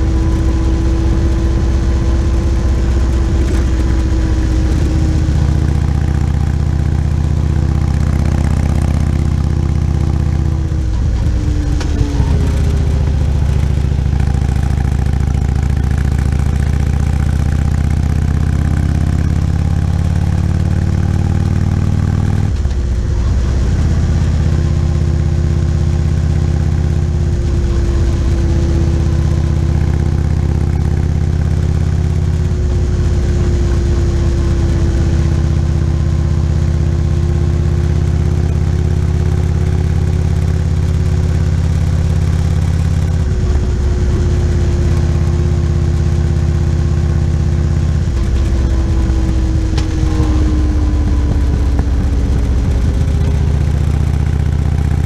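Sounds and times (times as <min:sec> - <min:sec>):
motorcycle engine cruising: 0:00.0 - 0:55.0.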